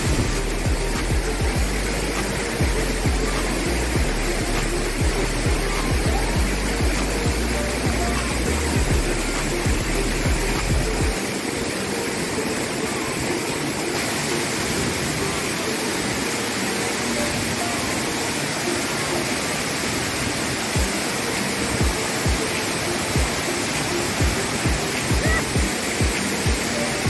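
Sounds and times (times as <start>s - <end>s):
waterfall rushing into pool: 0.0s - 27.0s.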